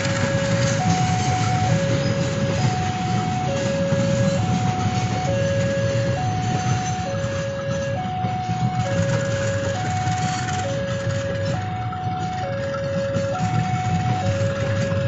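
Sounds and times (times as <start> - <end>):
train wheels rumbling on rails: 0.0 - 15.0
two-tone crossing alarm: 0.0 - 15.0.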